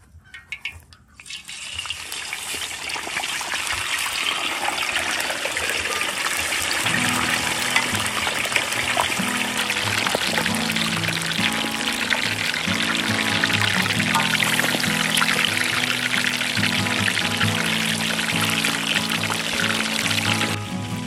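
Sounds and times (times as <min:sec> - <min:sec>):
fish sizzling in hot oil: 0:01.2 - 0:20.7.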